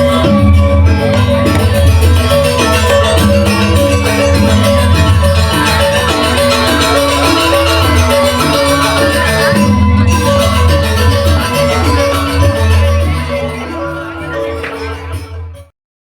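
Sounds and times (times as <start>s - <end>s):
drum pulse: 0.0s - 13.4s
metallophones ringing melody: 0.0s - 15.7s.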